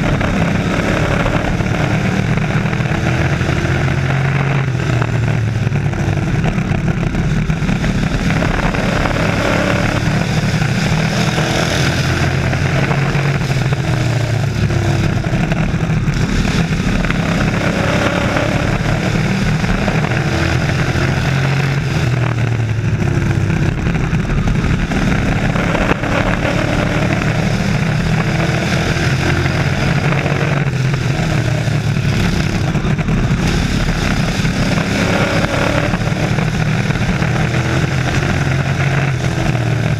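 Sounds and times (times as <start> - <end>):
race truck engines roaring: 0.0 - 39.9.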